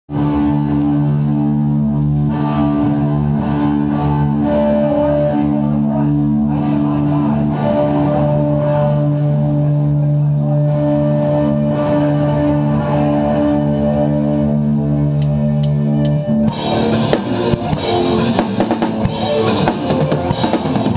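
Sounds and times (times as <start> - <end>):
rock band guitar intro: 0.1 - 20.9
sustained low notes: 0.1 - 20.9.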